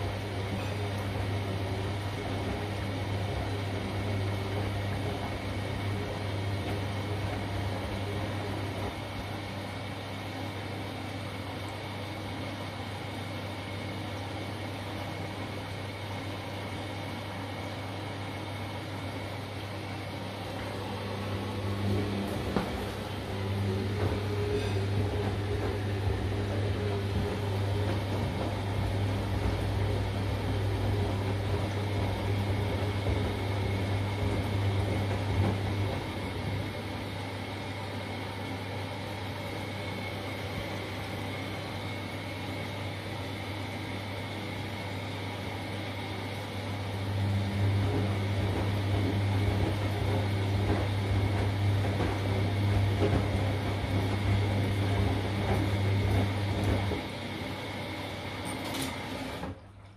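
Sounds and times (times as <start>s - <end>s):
washing machine drum tumbling: 0.0s - 12.1s, 18.8s - 59.9s
motor hum: 0.0s - 12.6s, 13.6s - 59.9s.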